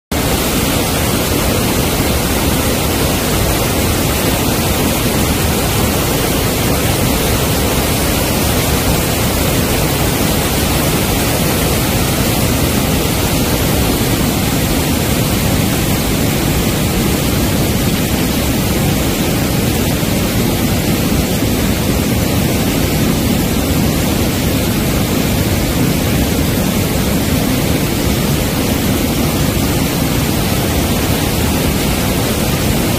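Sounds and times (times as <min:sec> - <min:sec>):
white water cascading over boulders: 0:00.1 - 0:32.9.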